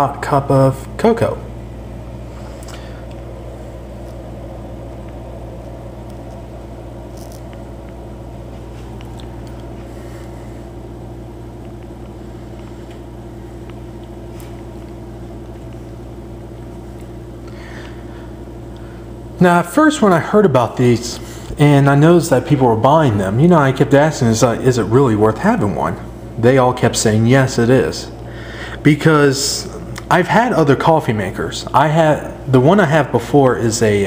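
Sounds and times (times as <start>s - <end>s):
coffee maker humming: 0.0s - 34.0s.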